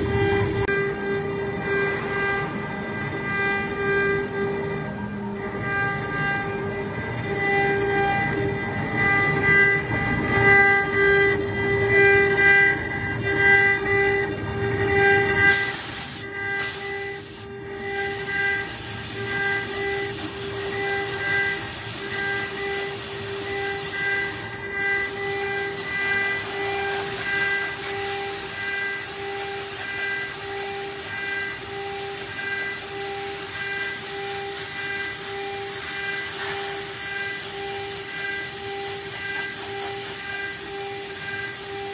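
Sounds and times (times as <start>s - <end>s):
router spindle whining: 0.0s - 41.9s.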